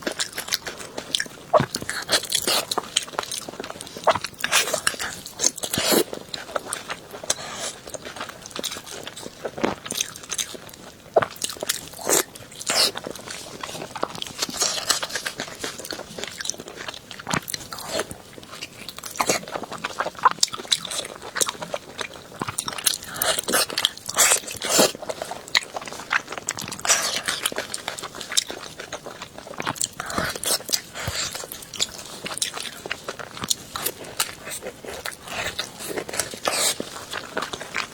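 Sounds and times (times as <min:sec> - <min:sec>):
chewing crunchy food: 0:00.0 - 0:37.9.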